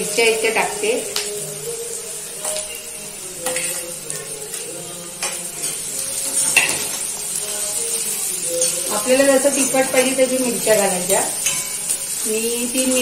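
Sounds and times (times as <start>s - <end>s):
frying sizzle: 0.0s - 13.0s
metal spoon scraping a pan: 2.2s - 13.0s.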